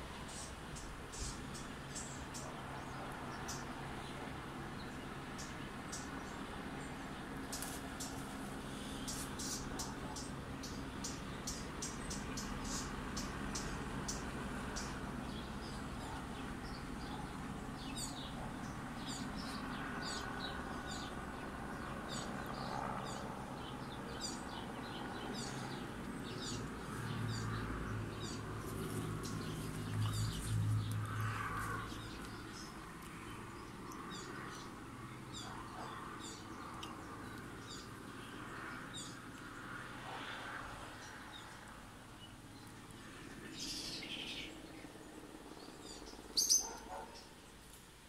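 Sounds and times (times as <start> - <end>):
distant helicopter drone: 0.0 - 47.6
small birds chirping: 0.0 - 47.9.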